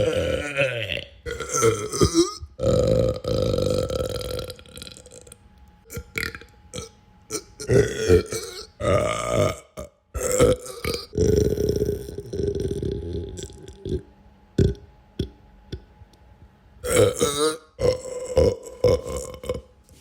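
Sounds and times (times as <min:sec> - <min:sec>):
person belching: 0:00.0 - 0:15.9, 0:16.8 - 0:19.8.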